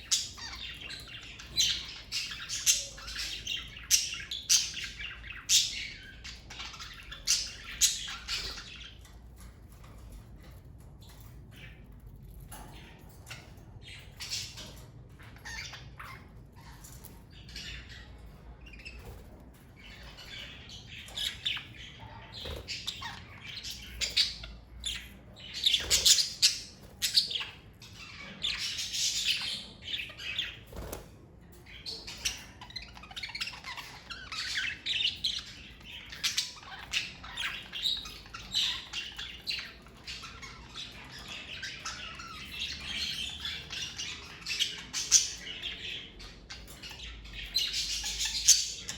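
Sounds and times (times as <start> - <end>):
budgerigars chirping and squawking: 0.0 - 48.9.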